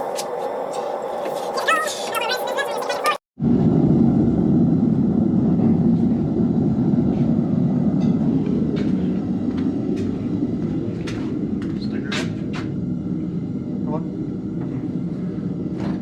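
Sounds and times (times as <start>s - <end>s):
forge burner roaring: 0.0s - 16.0s.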